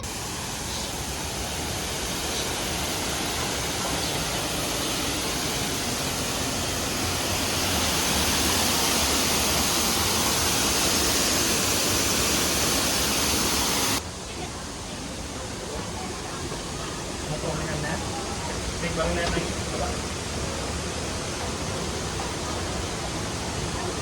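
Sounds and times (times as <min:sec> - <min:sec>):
waterfall rushing: 0:00.0 - 0:14.0, 0:17.0 - 0:24.0.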